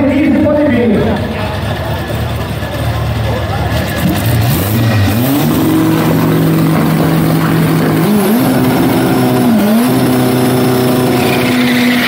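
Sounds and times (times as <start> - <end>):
racing car engine revving high: 1.0 - 12.0.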